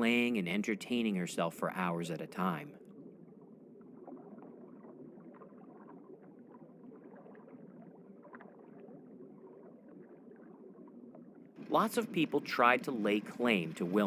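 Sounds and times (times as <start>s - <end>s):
underwater watery rush: 0.0s - 14.0s.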